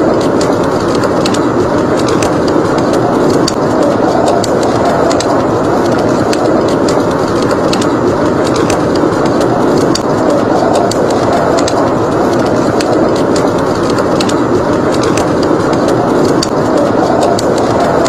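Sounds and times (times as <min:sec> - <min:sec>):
blizzard wind roaring: 0:00.0 - 0:18.0
log fire crackling: 0:00.0 - 0:18.0.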